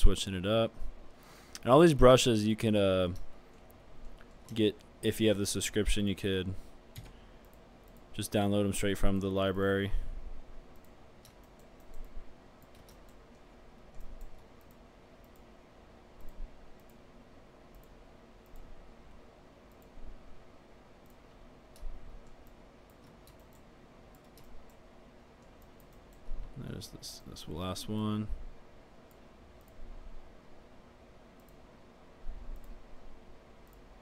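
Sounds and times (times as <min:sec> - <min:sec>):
faint room noise: 0:00.0 - 0:34.0.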